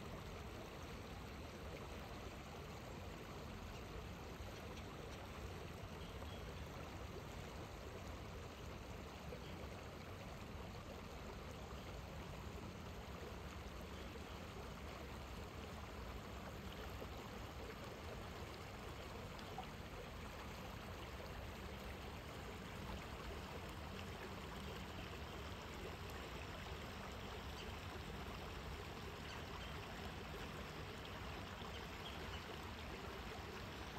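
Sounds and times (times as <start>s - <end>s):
river flowing gently: 0.0s - 33.9s.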